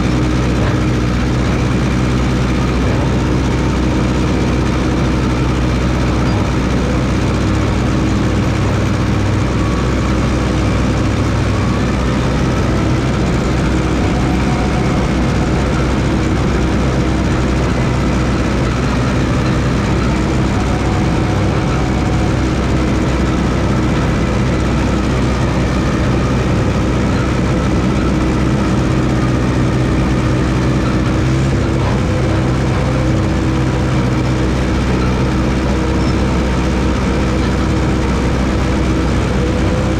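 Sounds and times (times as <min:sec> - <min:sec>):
dozer engine running: 0:00.0 - 0:39.9.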